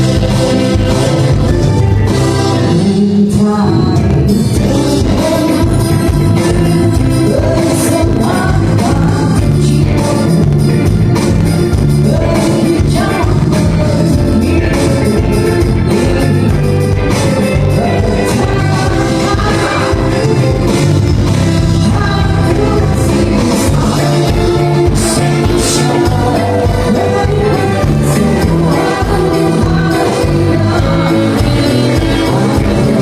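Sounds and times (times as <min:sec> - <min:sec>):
live band with singer: 0:00.0 - 0:33.0.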